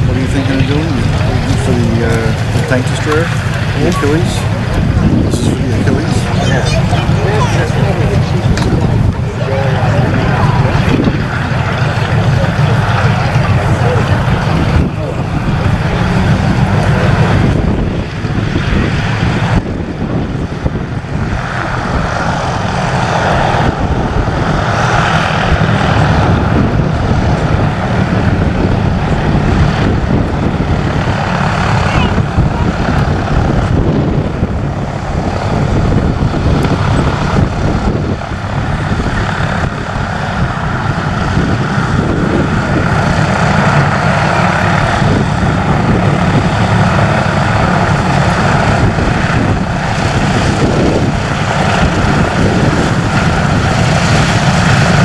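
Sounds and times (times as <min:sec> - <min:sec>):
propeller airplane engines rumbling: 0:00.0 - 0:55.0.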